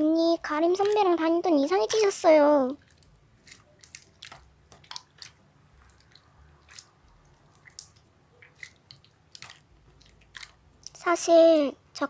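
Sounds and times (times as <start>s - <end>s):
faint sharp clicks and smacks: 0.4s - 11.1s.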